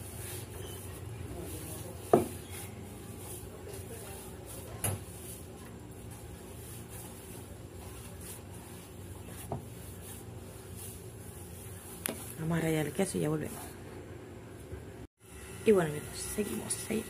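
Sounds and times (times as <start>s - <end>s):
hands kneading dough: 0.0s - 13.8s.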